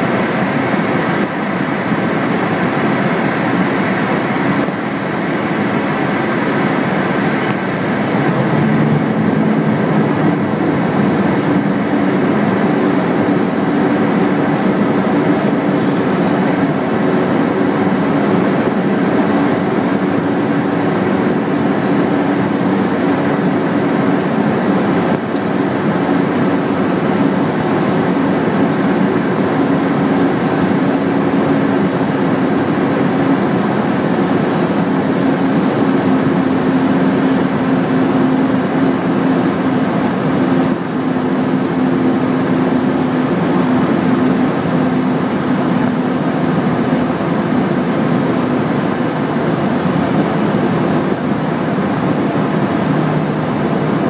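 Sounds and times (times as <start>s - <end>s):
aircraft cockpit engine drone: 0.0s - 54.0s.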